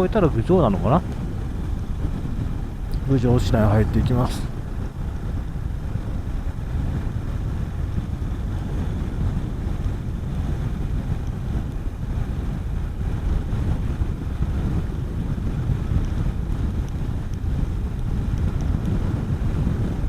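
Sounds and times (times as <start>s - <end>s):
motorcycle engine and road noise: 0.0s - 20.0s
wind buffeting microphone: 0.0s - 20.0s.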